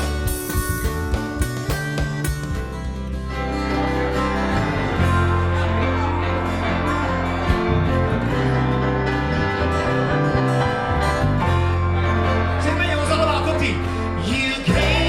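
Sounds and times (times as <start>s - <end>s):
instrumental band led by guitar: 0.0s - 15.0s.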